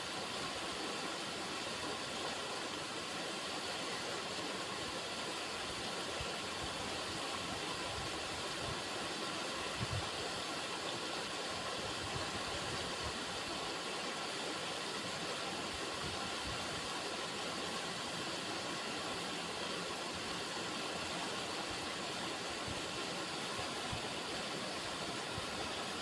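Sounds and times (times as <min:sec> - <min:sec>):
river water running: 0:00.0 - 0:26.0.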